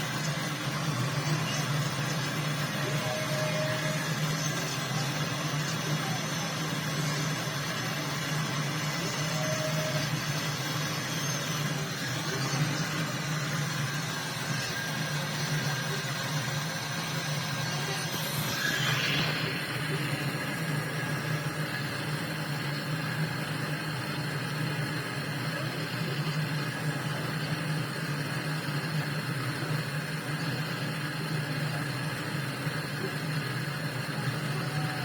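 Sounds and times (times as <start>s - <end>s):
small motor humming: 0.0s - 35.0s.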